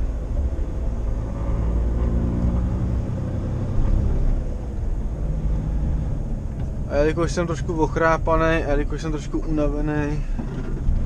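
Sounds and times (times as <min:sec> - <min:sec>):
truck engine and tyres rumbling: 0:00.0 - 0:11.0.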